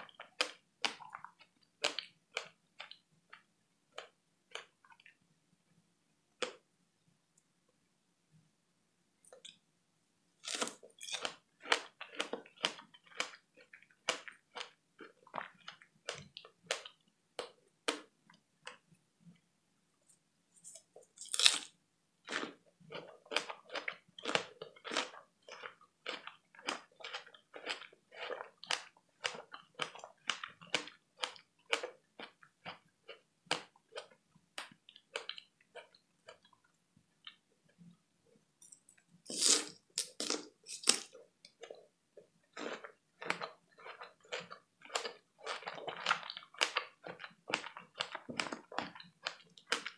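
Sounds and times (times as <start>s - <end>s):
person chewing strawberries: 0.0s - 5.2s, 10.4s - 18.9s, 20.6s - 37.9s, 38.6s - 49.9s.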